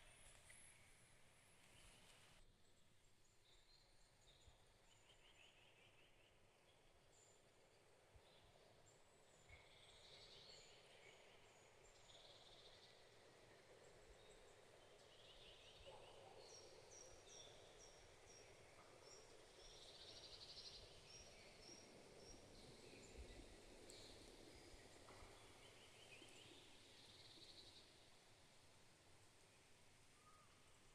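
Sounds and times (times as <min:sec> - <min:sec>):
faint birdsong: 0:00.0 - 0:30.9
soft steady hiss: 0:00.0 - 0:30.9.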